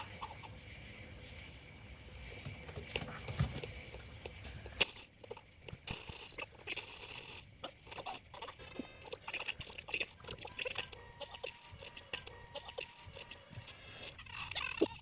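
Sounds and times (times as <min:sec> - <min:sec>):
animal chirps and croaks: 0:00.0 - 0:01.4, 0:03.6 - 0:15.0.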